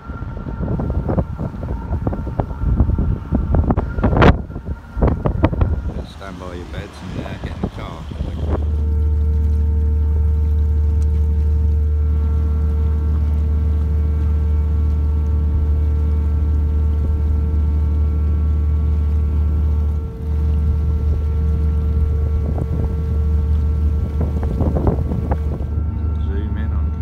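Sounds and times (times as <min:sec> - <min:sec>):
ferry engine droning: 0:00.0 - 0:27.0.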